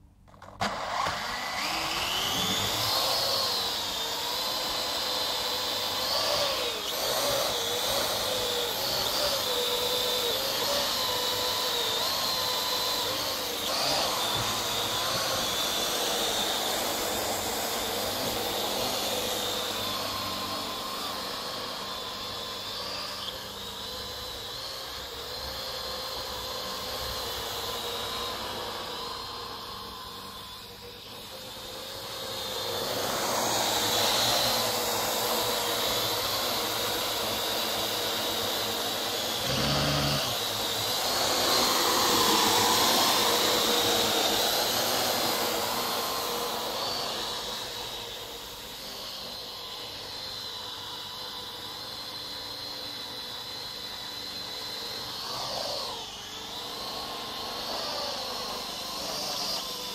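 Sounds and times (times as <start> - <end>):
drone propellers whining: 0.3 - 59.9.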